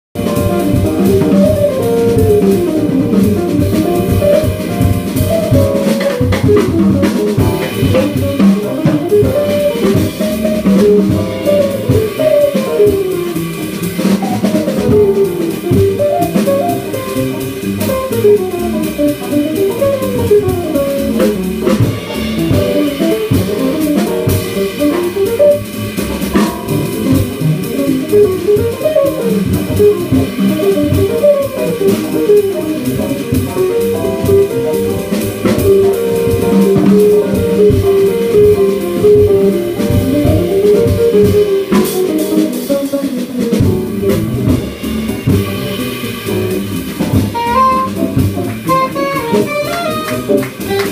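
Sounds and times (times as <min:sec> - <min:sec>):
piano: 0:00.1 - 0:50.9
double bass: 0:00.2 - 0:50.9
drum kit: 0:00.2 - 0:50.9.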